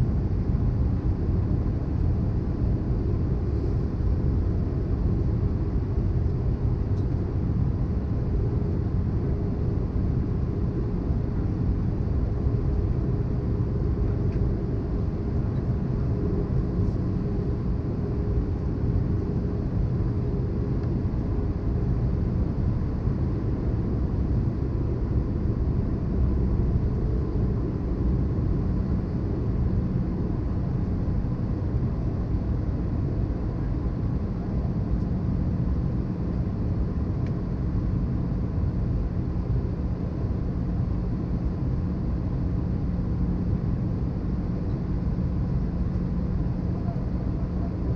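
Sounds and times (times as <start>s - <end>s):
airplane cabin rumble: 0.0s - 47.9s
faint steady hum: 0.0s - 47.9s.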